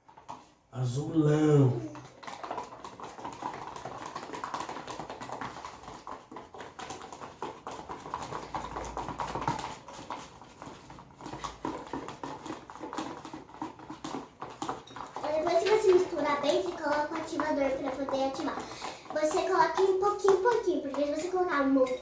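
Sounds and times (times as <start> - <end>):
slime squelching: 0.8 - 21.9.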